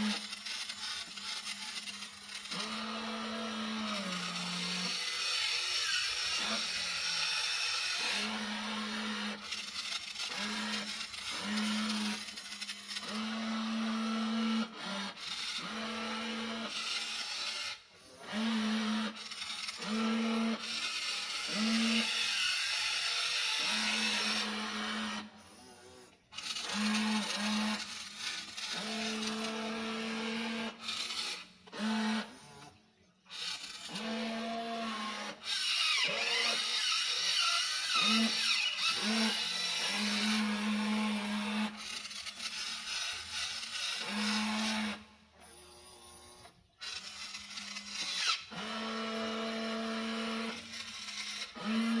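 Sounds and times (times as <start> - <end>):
toy electric motors whirring: 0.0 - 52.0.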